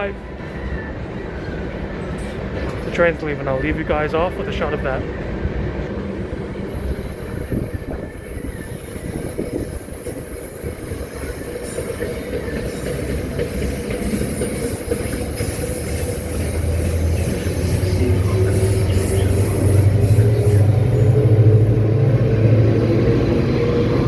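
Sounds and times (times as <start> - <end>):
train wheels rumbling on rails: 0.0 - 24.0
rail clicks: 2.0 - 24.0.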